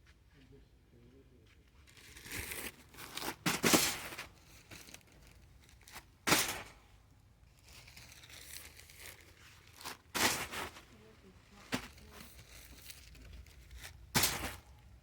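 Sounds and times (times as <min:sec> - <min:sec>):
rustling and crinkling handling: 0:01.4 - 0:15.0.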